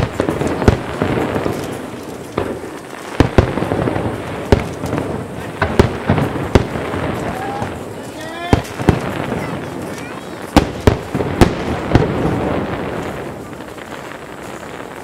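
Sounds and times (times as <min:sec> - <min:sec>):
firework shells booming: 0:00.0 - 0:15.0
fireworks crackling: 0:00.0 - 0:15.0.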